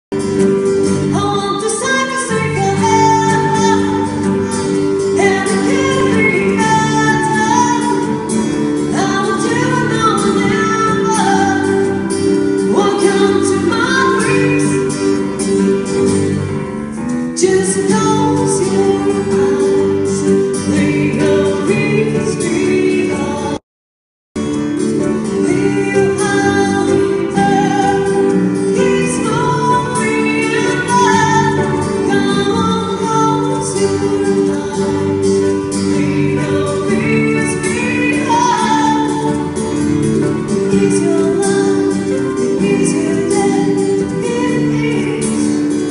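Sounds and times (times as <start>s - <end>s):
acoustic guitar: 0.1s - 23.6s, 24.4s - 45.9s
keyboard: 0.1s - 23.6s, 24.4s - 45.9s
woman singing pop song: 0.8s - 15.6s, 17.3s - 23.6s, 25.2s - 45.9s.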